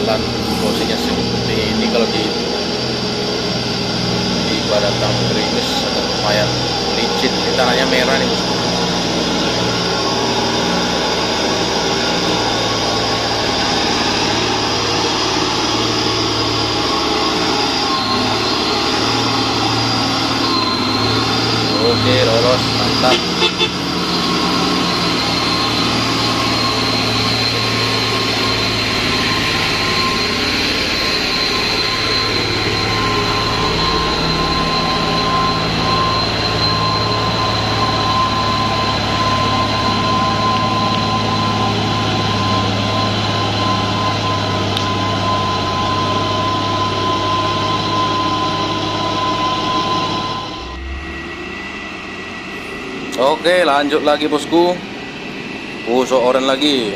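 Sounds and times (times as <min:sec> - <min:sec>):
high whine: 0:00.0 - 0:56.9
truck diesel engine droning: 0:00.0 - 0:56.9.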